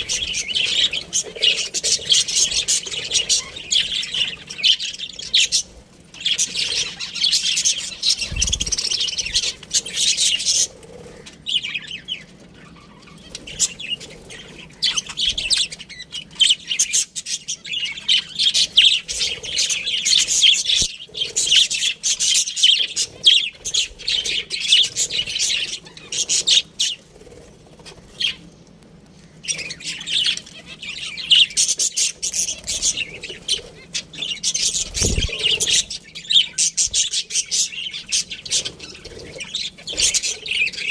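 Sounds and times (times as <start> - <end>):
budgerigars chirping: 0.0 - 28.4, 29.4 - 40.9.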